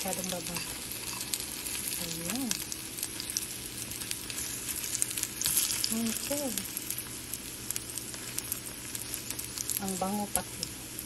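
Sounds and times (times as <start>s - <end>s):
banana slices sizzling in oil: 0.0s - 11.0s.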